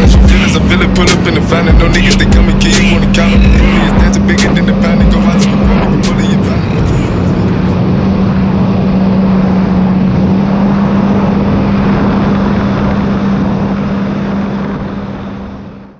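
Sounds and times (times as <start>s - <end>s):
jet ski engine droning: 0.0s - 15.9s
water and wind rush: 0.0s - 15.9s.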